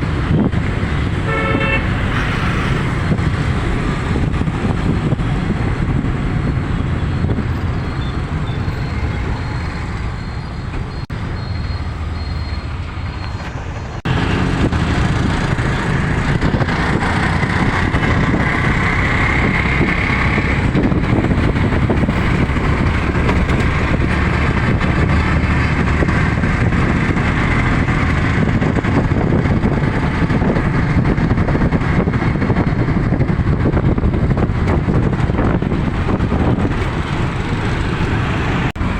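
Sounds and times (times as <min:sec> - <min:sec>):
vehicle rumble: 0:00.0 - 0:38.9.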